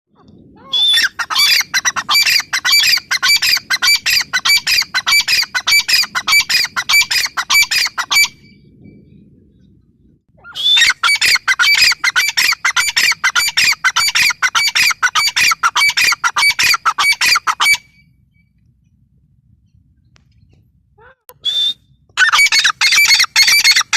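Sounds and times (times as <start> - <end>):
bird calling shrill repeated notes: 0.6 - 9.0, 10.4 - 18.6, 21.0 - 23.9.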